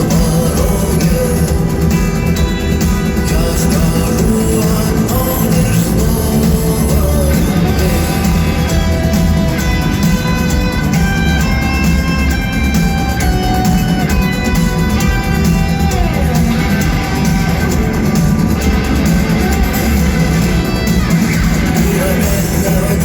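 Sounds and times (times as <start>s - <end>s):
loud music with guitar and bass: 0.0s - 23.0s.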